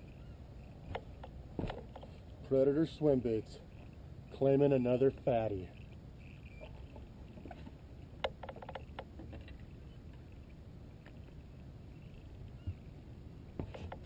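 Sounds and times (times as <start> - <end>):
low steady rumble: 0.0 - 13.7.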